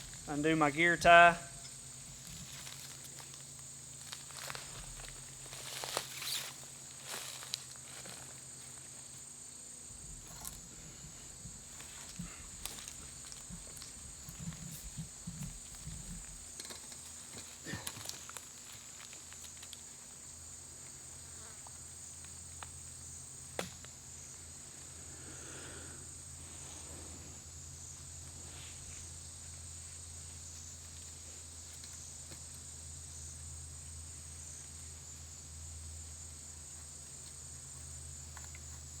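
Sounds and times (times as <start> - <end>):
insect chorus chirring: 0.0 - 39.0.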